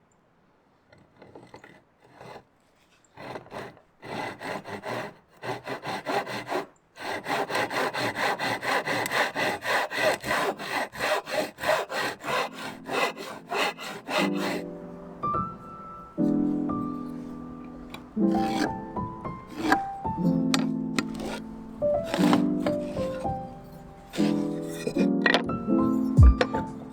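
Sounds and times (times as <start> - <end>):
hand saw cutting wood: 1.0 - 26.9.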